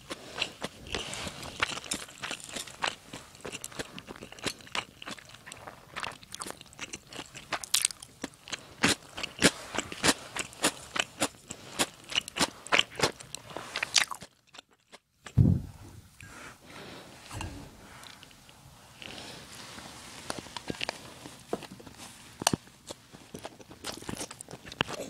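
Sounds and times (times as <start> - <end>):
chewing crunchy food: 0.0 - 15.4, 17.2 - 25.0.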